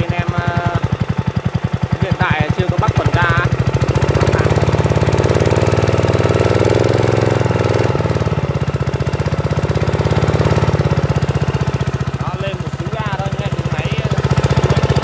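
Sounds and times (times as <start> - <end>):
gasoline engine running: 0.0 - 15.0.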